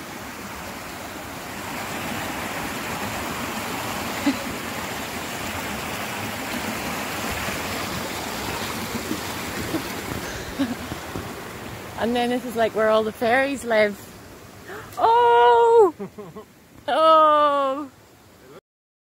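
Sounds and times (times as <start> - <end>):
stream splashing over rocks: 0.0 - 15.8.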